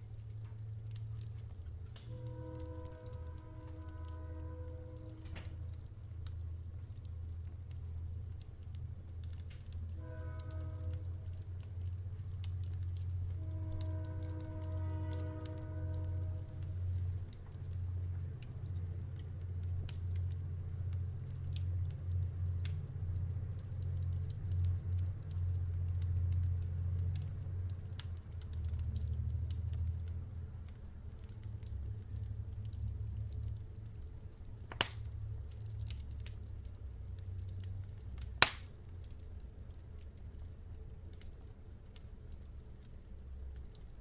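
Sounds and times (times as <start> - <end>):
campfire crackling: 0.0 - 44.0.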